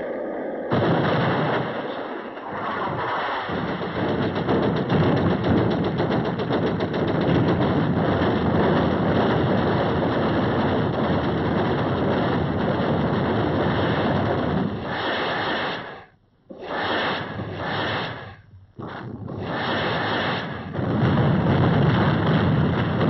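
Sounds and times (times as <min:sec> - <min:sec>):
rapid machine-gun fire: 0:00.7 - 0:16.1, 0:16.8 - 0:23.0.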